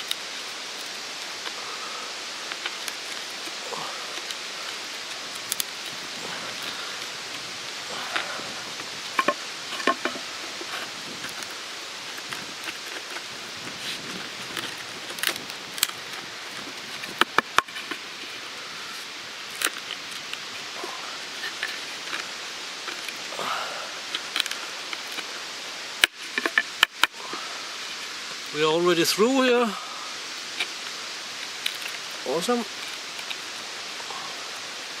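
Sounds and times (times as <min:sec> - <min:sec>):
steady hiss: 0:00.0 - 0:35.0
knife cutting and prying wood: 0:02.4 - 0:23.3, 0:23.9 - 0:28.2, 0:30.4 - 0:33.7.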